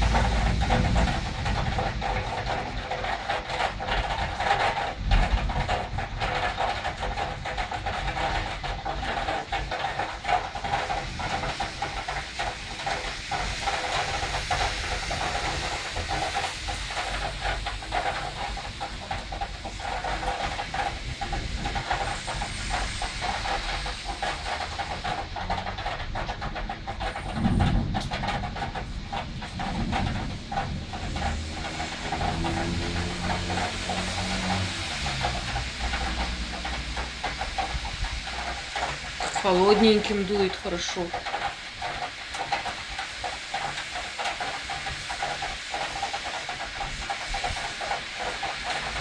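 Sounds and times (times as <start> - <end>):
heavy rain hissing: 0.0 - 49.0
raindrops tapping: 0.0 - 49.0.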